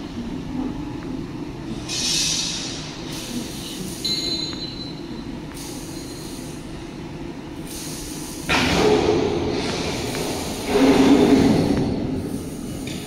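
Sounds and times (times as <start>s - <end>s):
machinery rumbling with hiss: 0.0s - 13.0s.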